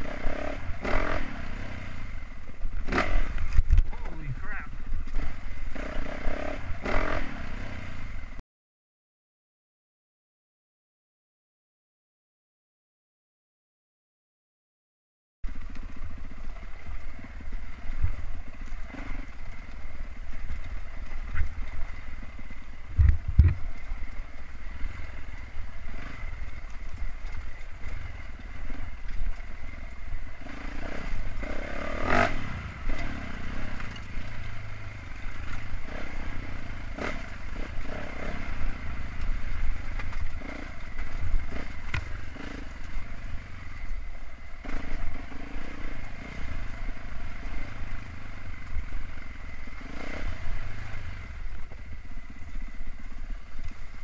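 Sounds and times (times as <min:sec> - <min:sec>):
dirt bike engine running: 0:00.0 - 0:08.4, 0:15.4 - 0:54.0.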